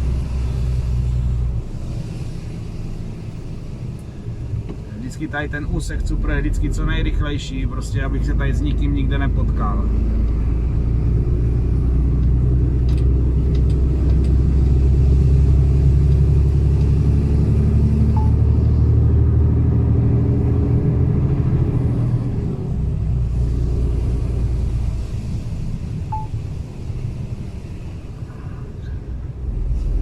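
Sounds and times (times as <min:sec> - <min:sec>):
truck diesel engine droning: 0:00.0 - 0:30.0.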